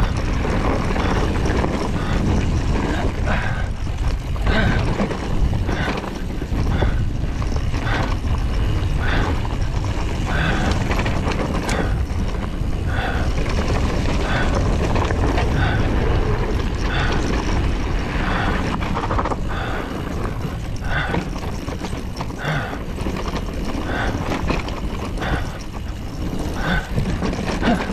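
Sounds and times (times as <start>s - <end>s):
tyre and frame rattle: 0.0s - 27.9s
wind buffeting microphone: 0.0s - 27.9s.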